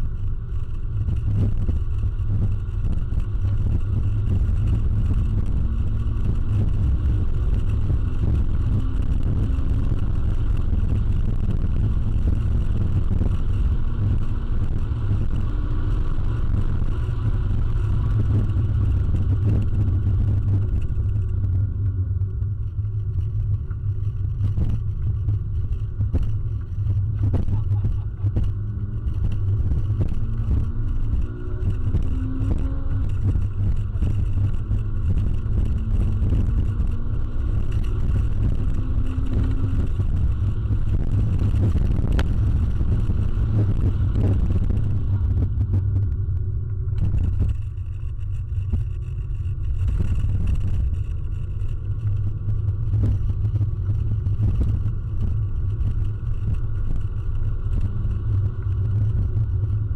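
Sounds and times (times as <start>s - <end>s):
car engine and road noise drone: 0.0s - 59.9s.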